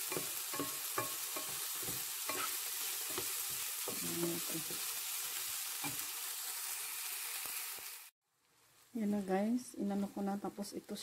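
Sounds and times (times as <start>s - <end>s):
potato and onion sizzling: 0.0s - 11.0s.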